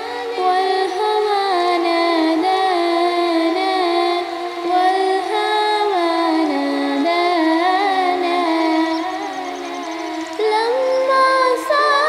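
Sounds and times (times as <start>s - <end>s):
woman singing devotional song: 0.0s - 12.0s.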